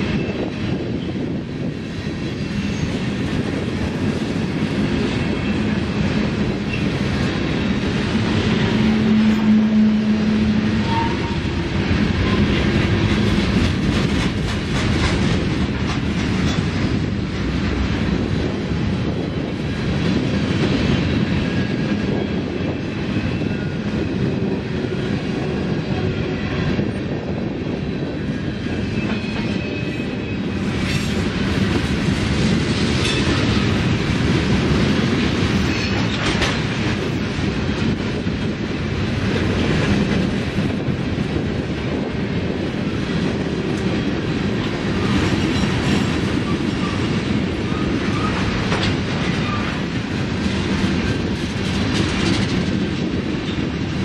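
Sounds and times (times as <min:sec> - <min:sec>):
clickety-clack over rail joints: 0:00.0 - 0:54.0
steel wheels rumbling on rail: 0:00.0 - 0:54.0.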